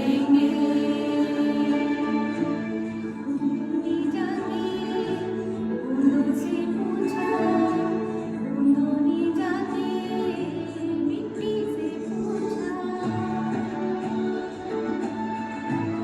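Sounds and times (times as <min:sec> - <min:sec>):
group of people singing: 0:00.0 - 0:15.5
instrumental accompaniment: 0:00.0 - 0:16.0.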